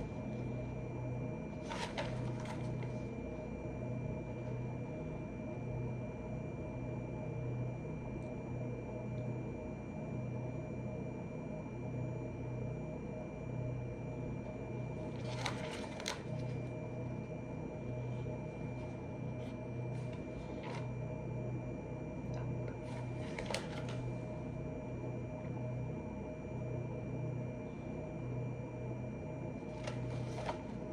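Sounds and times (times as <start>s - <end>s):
low room hum: 0.0s - 30.9s.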